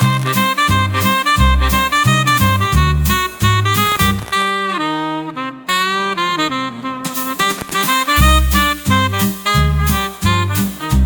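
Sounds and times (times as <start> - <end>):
swing music with horns: 0.0 - 11.0.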